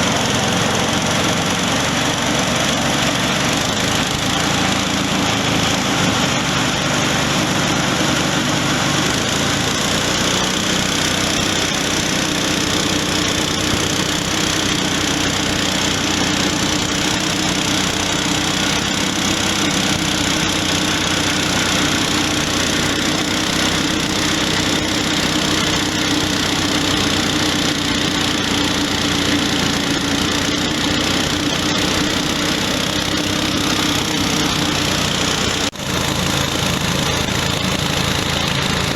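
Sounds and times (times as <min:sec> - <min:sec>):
grinding mill humming: 0:00.0 - 0:38.9.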